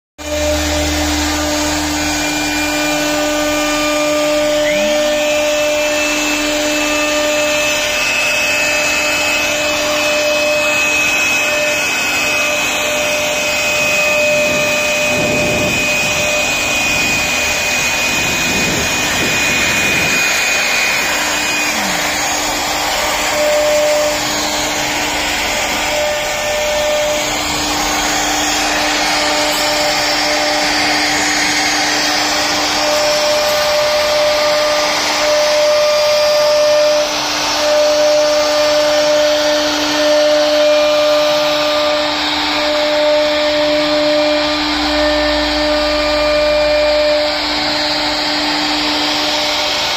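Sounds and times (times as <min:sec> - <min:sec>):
cnc router cutting wood: 0:00.2 - 0:49.9.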